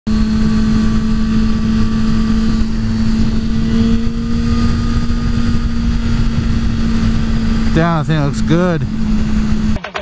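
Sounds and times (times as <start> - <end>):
wind rumble on microphone: 0.1 - 9.8
motorcycle engine cruising: 0.1 - 10.0.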